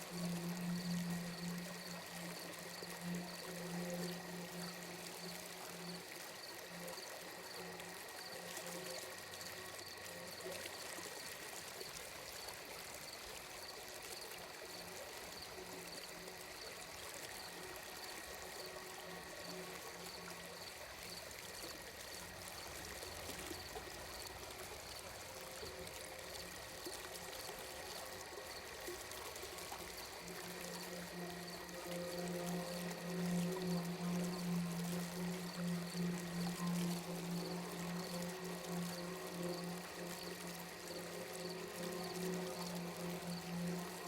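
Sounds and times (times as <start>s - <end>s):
soft sustained tones: 0.0s - 44.0s
stream water flowing: 0.0s - 44.0s.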